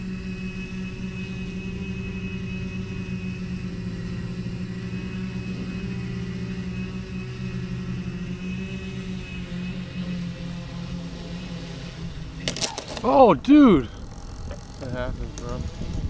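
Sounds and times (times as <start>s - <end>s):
drone motors and propellers humming: 0.0s - 16.0s.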